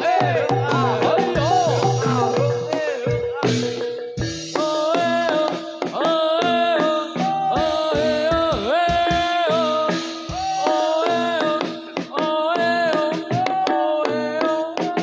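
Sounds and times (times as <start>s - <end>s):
ornamented melodic lead line: 0.0s - 12.1s
drum strokes: 0.0s - 15.0s.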